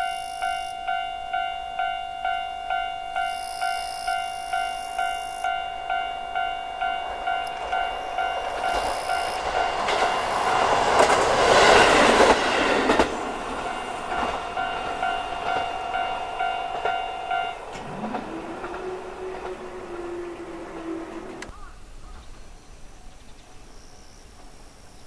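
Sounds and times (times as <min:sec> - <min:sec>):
level crossing warning bell: 0:00.0 - 0:21.5
diesel train passing: 0:00.0 - 0:21.8.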